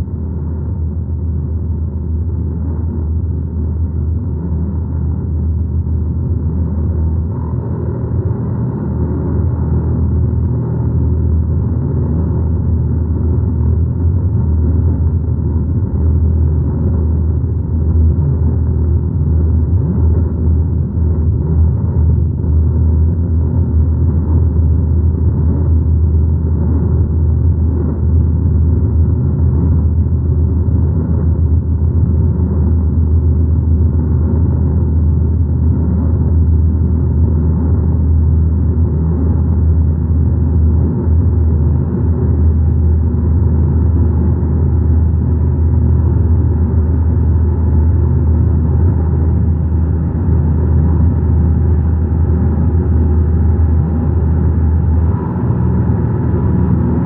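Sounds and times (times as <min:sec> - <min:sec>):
low rumbling ambient drone music: 0:00.0 - 0:57.0.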